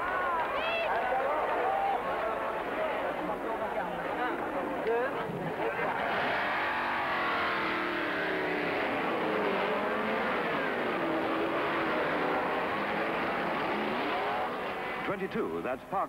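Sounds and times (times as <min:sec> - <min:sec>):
racing car engines revving: 0:00.0 - 0:15.9.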